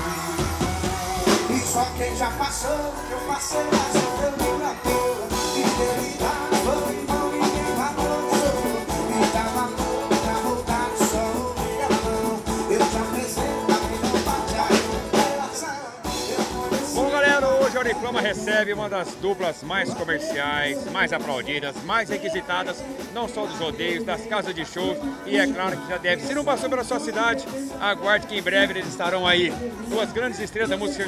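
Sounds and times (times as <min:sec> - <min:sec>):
live band music: 0:00.0 - 0:31.0
man singing: 0:00.0 - 0:31.0.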